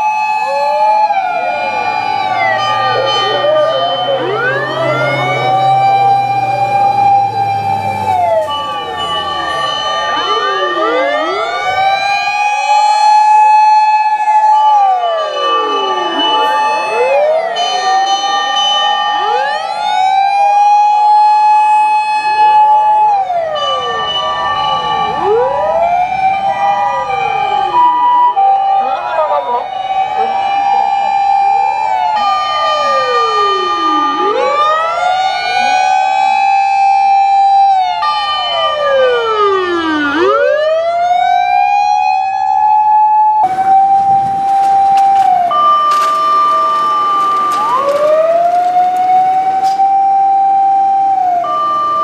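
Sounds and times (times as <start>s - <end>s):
emergency sirens wailing: 0.0s - 52.0s.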